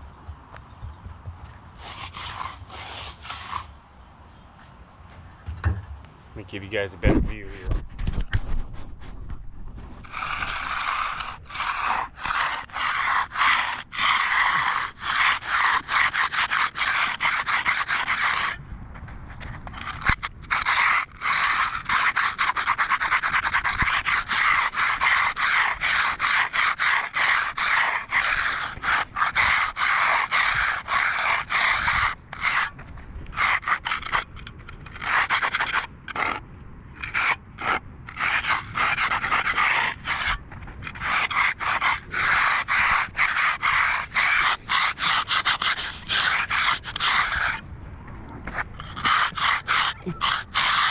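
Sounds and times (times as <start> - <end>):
stiff broom scraping concrete: 1.7 - 3.8, 10.0 - 36.4, 37.0 - 47.6, 48.4 - 50.9.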